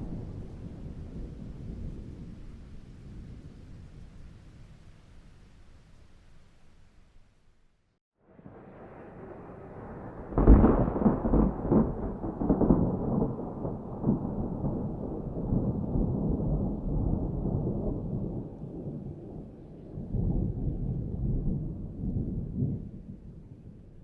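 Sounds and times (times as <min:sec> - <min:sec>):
thunder rumbling: 0:00.0 - 0:04.9, 0:08.3 - 0:24.0.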